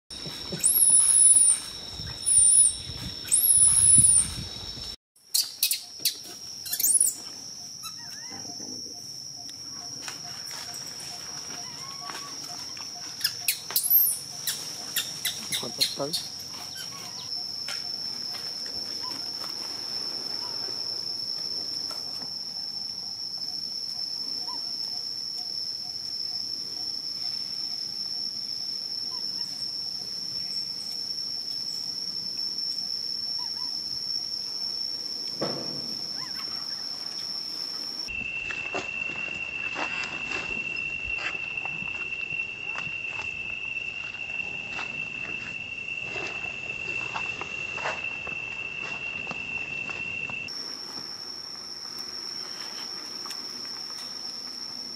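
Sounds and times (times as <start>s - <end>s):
high-pitched insect drone: 0.1s - 54.9s
lower insect drone: 0.1s - 54.9s.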